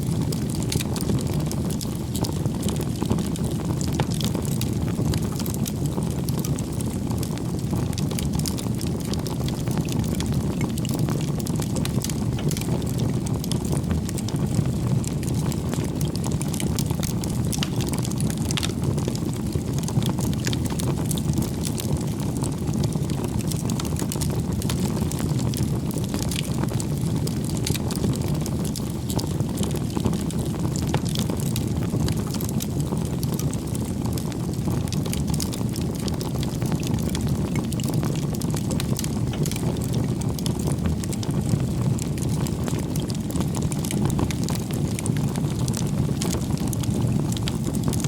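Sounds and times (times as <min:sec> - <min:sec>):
campfire rumbling: 0:00.0 - 0:48.0
firewood crackling and popping: 0:00.0 - 0:48.0.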